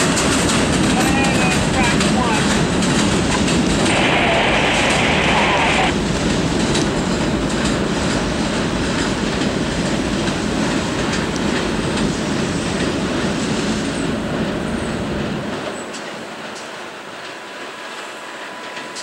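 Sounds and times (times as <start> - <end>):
train wheels clickety-clack: 0.0 - 4.0, 5.9 - 19.0.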